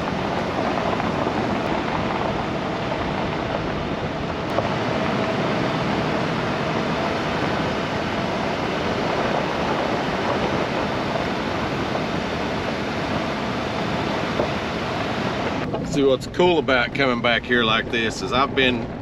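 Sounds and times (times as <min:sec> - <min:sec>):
truck rumbling on rocky road: 0:00.0 - 0:19.0.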